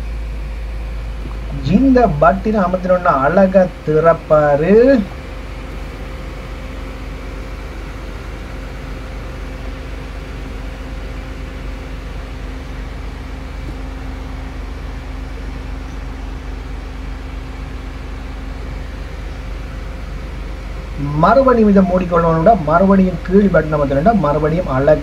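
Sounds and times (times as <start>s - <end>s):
constant low rumble: 0.0s - 25.0s.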